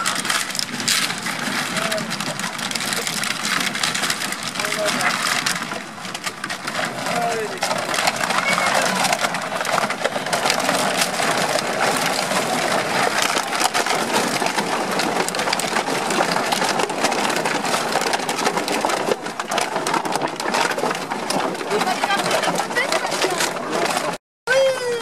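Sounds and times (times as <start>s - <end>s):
plastic bottles crunching: 0.0s - 24.2s.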